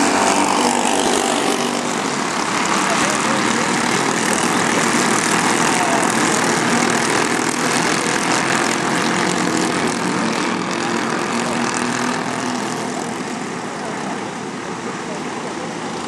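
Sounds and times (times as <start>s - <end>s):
kart engine running: 0.0s - 16.0s
rushing noise: 0.0s - 16.0s.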